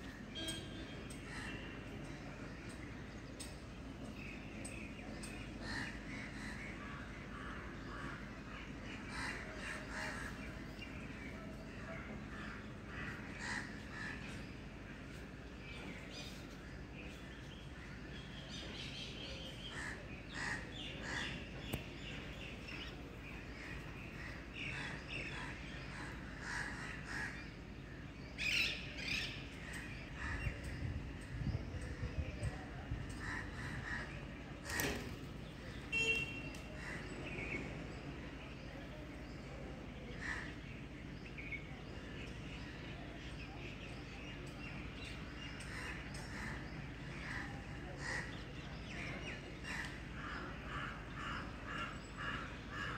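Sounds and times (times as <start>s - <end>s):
birds calling: 0.0s - 52.9s
low background hum: 0.0s - 52.9s.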